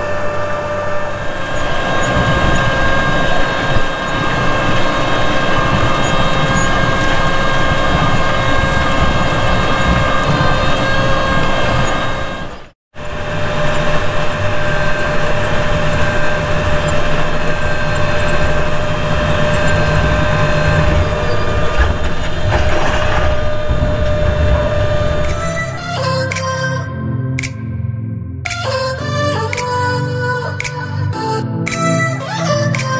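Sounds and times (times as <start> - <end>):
tractor engine droning: 0.0 - 26.8.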